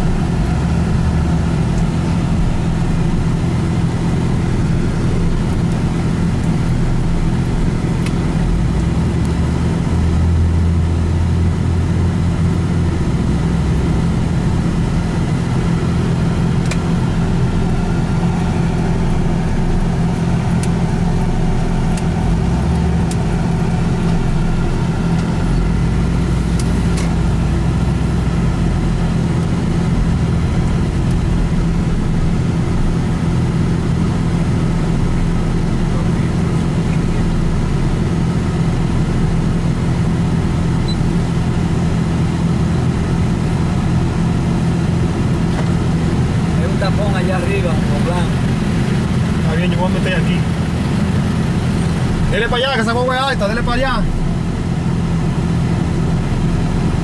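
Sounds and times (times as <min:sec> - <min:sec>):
road noise: 0:00.0 - 0:57.0
vehicle engine hum: 0:00.0 - 0:57.0.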